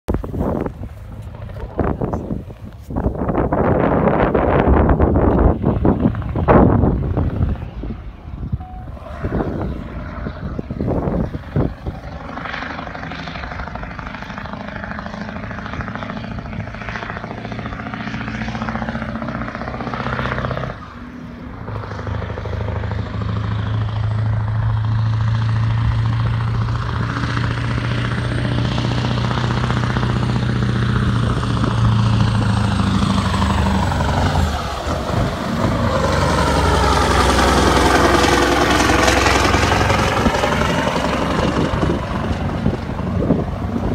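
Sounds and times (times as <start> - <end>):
truck diesel engine pulling hard: 0.1 - 43.9.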